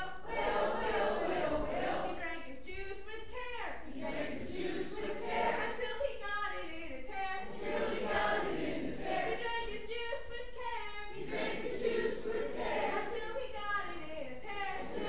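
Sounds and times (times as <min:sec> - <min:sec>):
women and girls singing together: 0:00.0 - 0:15.0.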